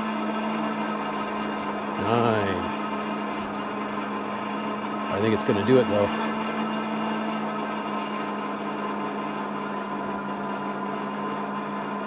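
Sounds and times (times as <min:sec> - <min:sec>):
electric bike motor whining: 0:00.0 - 0:12.0.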